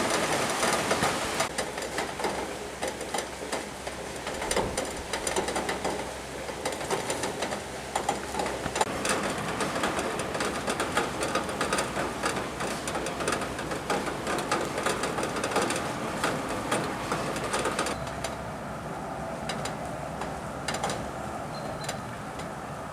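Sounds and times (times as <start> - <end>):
raindrops clicking on hard surface: 0.0 - 18.4, 19.4 - 22.6
heavy rain rushing: 0.0 - 22.9.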